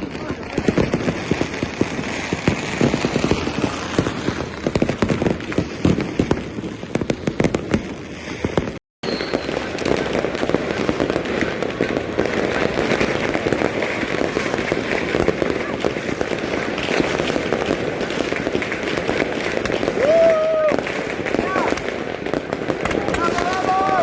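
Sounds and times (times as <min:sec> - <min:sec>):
fireworks and firecrackers popping: 0:00.0 - 0:24.0.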